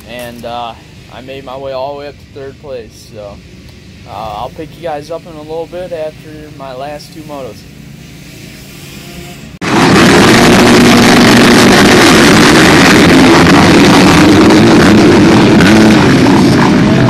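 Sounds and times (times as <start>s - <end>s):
motocross bikes at full throttle: 0.0s - 17.0s.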